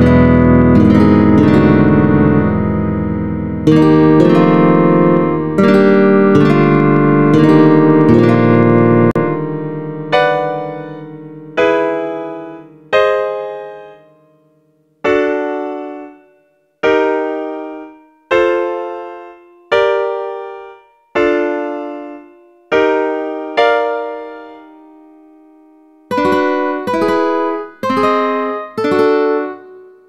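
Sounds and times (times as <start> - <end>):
piano chords: 0.0 - 30.0.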